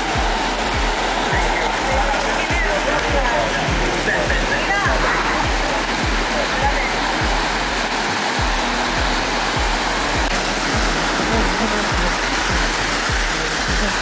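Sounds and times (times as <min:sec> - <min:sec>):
heavy rain pouring: 0:00.0 - 0:14.0
music with bass-drum beat: 0:00.0 - 0:14.0.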